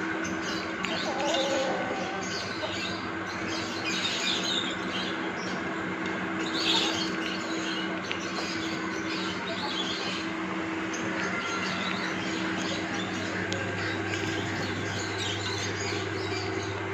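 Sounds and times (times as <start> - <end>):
steady low hum: 0.0 - 16.9
chickens feeding: 0.1 - 16.9.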